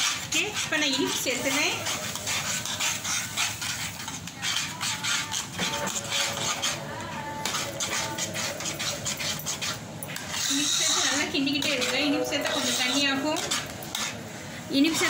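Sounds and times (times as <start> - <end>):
metal spoon scraping a pan: 0.0 - 15.0.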